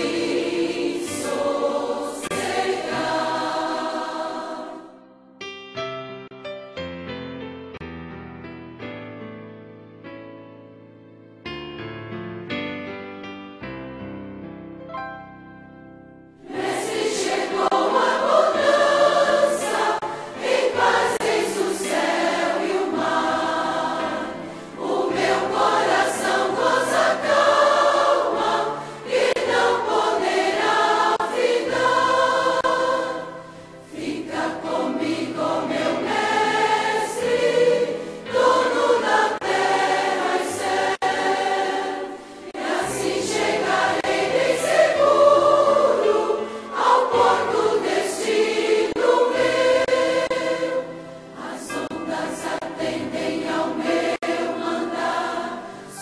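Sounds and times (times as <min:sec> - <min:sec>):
choir singing: 0:00.0 - 0:05.4, 0:16.4 - 0:56.0.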